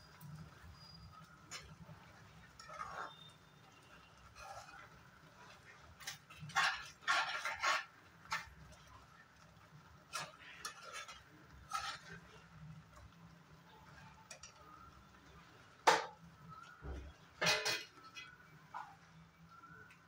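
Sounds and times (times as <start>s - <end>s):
metal spoon scraping a pan: 0.1s - 14.9s, 15.8s - 19.0s.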